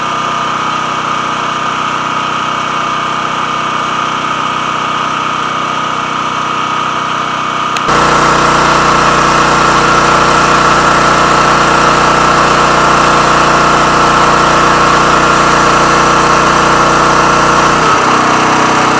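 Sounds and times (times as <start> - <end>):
generator engine running: 0.0 - 18.9.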